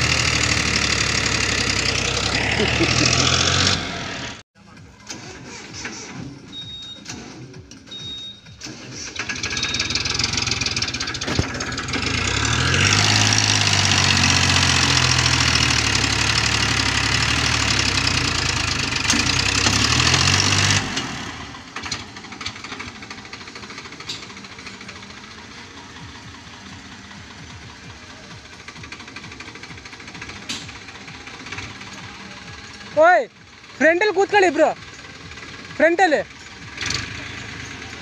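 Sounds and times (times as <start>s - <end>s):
diesel tractor engine under load: 0.0s - 38.0s.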